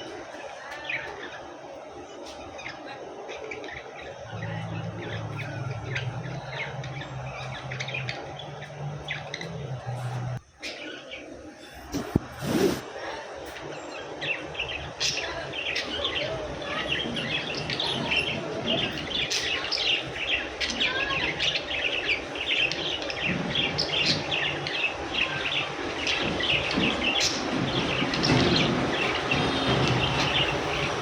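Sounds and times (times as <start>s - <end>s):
budgies chirping: 2.2s - 31.0s.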